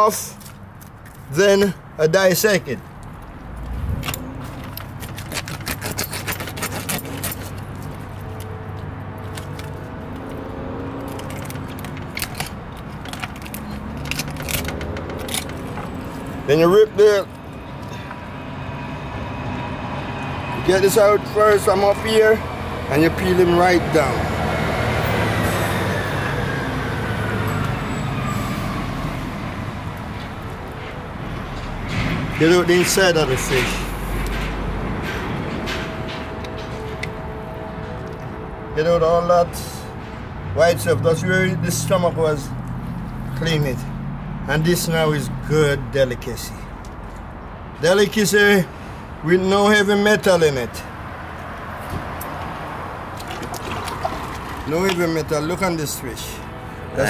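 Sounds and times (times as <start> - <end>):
passing road vehicle: 2.7 - 57.0.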